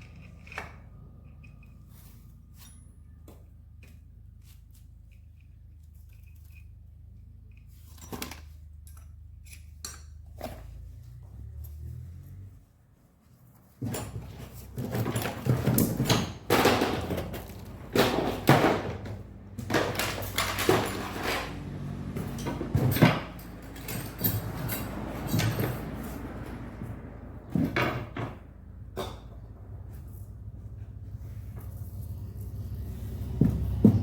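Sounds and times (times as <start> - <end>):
tools clattering: 0.0 - 11.8, 13.8 - 34.0.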